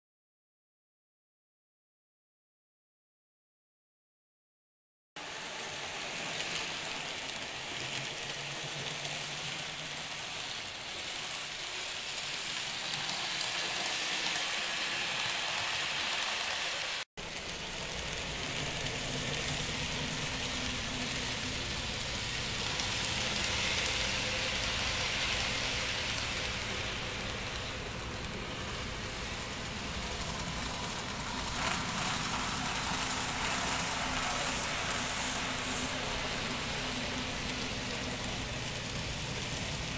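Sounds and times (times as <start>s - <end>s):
model trains whirring on rails: 5.2s - 39.9s.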